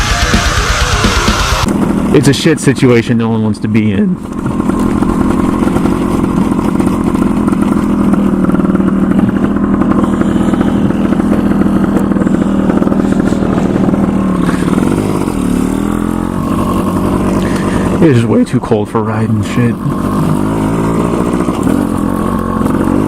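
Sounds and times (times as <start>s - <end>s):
two-stroke engine running: 0.0s - 23.0s.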